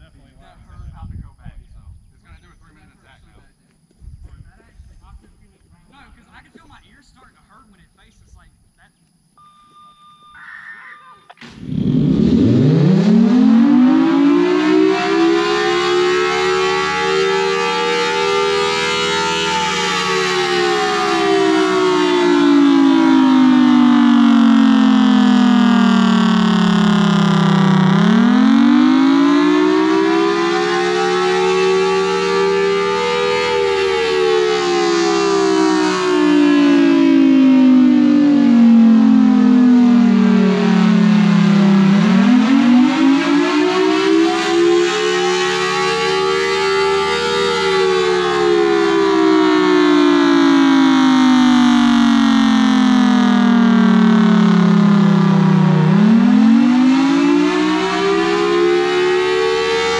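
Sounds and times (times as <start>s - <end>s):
warning siren wailing: 10.3s - 59.9s.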